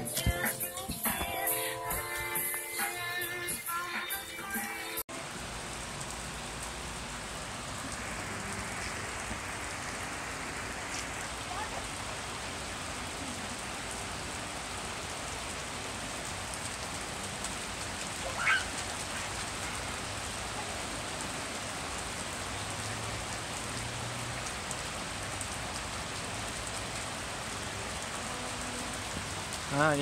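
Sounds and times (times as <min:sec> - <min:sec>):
rain on a paved patio: 0:00.2 - 0:30.0.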